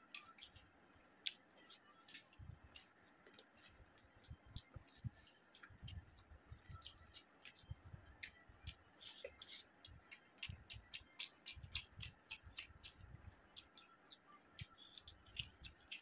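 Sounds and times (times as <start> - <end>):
fingers mixing rice: 1.3 - 16.0.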